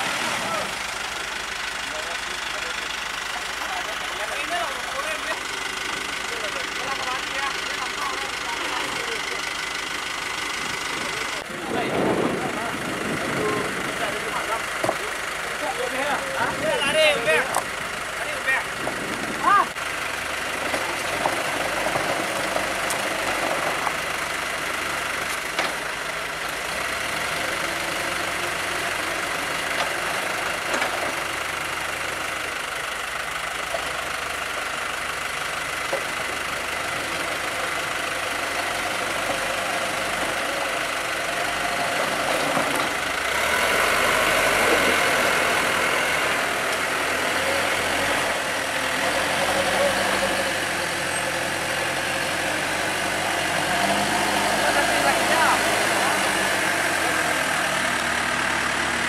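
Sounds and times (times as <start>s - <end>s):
vehicle engines idling in traffic: 0.0s - 59.0s.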